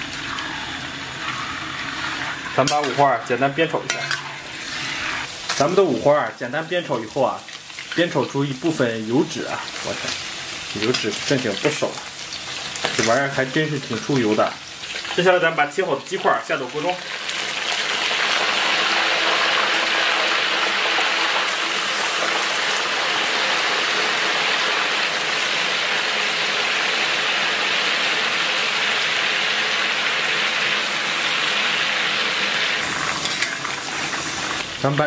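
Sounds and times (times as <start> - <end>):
chicken sizzling in a wok: 0.0 - 35.0.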